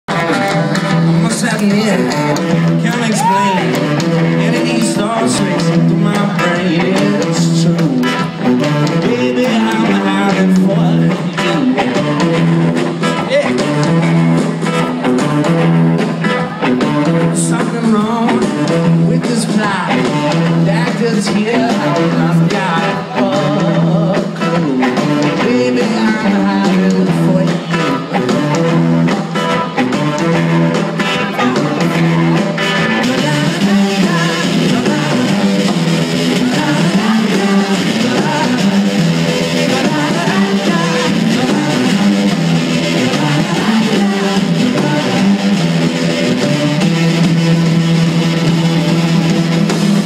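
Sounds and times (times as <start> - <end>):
drums: 0.0 - 50.0
electric guitar riff: 0.1 - 50.0
person singing: 0.1 - 50.0.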